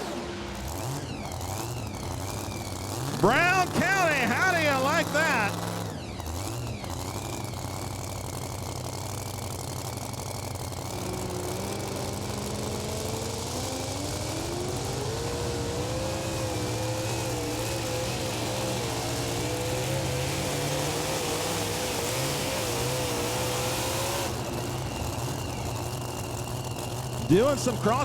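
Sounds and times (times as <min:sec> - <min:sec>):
pulling truck engine running: 0:00.0 - 0:28.0.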